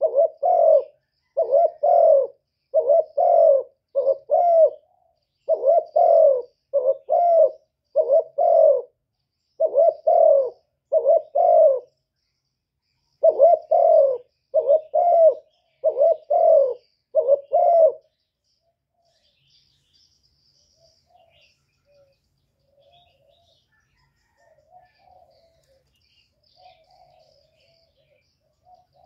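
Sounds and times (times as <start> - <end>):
dove cooing: 0.0 - 9.0, 9.6 - 12.0, 13.2 - 18.2, 20.8 - 29.0.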